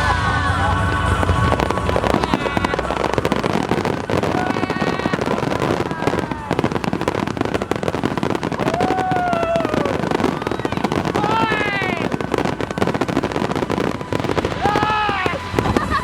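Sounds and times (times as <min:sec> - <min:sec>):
fireworks crackling and banging: 0:00.0 - 0:16.0
spectators crying out: 0:00.0 - 0:16.0.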